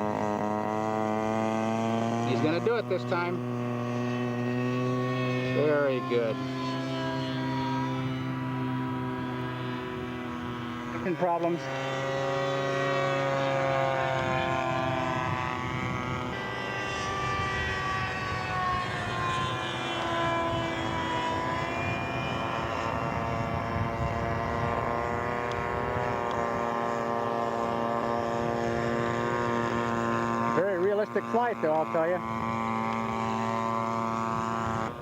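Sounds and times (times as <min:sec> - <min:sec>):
model airplane engine droning: 0:00.0 - 0:35.0.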